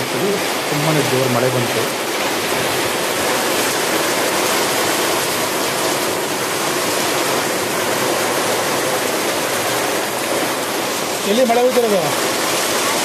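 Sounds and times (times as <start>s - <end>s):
heavy rain on a road: 0.0s - 13.0s.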